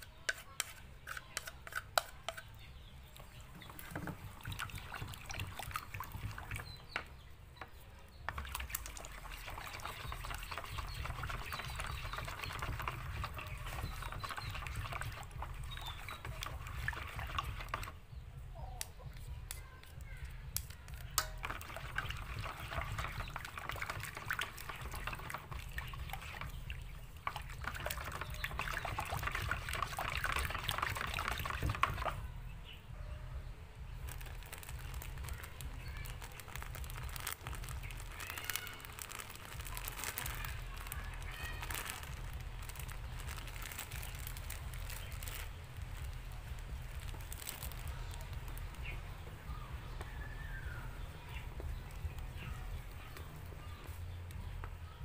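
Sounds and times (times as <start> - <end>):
spatula stirring thick batter: 0.0 - 18.2, 19.0 - 32.3, 33.9 - 55.0.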